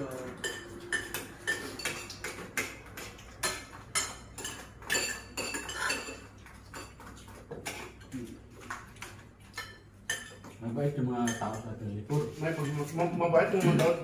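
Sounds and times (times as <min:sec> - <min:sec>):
cutlery clinking on plates: 0:00.1 - 0:10.6, 0:11.2 - 0:14.0.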